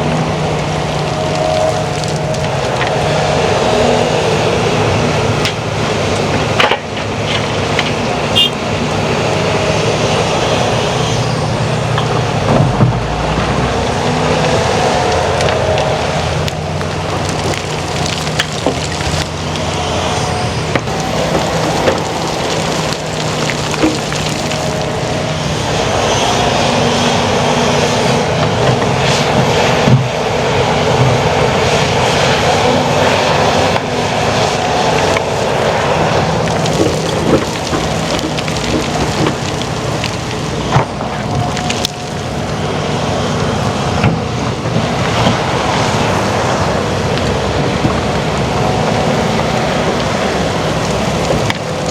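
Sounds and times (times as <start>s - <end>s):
heavy diesel machinery working: 0.0s - 51.9s.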